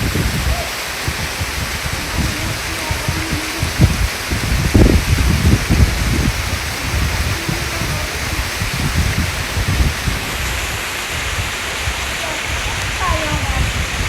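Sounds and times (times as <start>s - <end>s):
falling water rushing: 0.0s - 14.0s
low rumbling: 0.0s - 14.0s.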